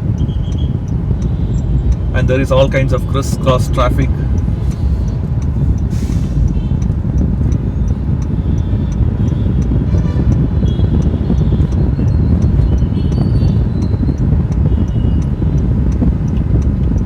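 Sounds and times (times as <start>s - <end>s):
road rumble inside a car: 0.0s - 17.0s
turn indicator ticking: 0.0s - 17.0s.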